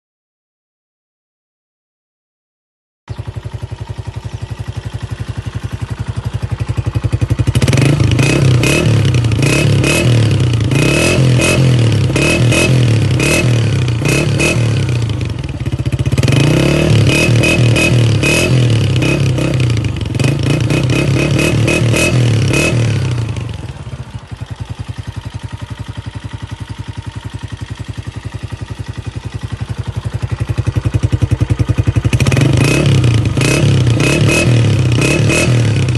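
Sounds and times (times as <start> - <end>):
motorcycle engine idling and revving: 3.1 - 35.9.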